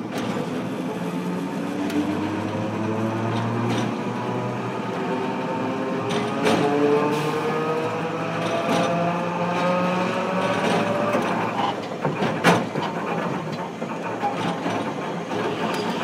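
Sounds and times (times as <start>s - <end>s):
tram motor whine: 0.0s - 16.0s
tram rolling rumble: 0.0s - 16.0s.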